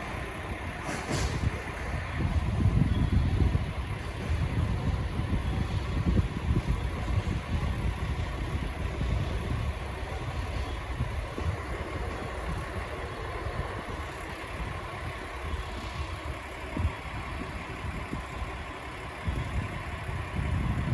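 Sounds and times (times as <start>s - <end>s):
freight train rumbling: 0.0s - 20.9s.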